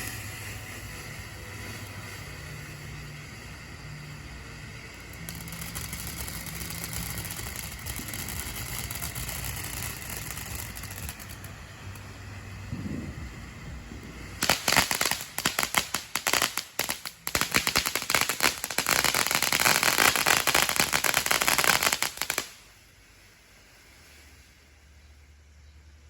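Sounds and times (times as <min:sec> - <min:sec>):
firework crackling: 0:00.0 - 0:25.0.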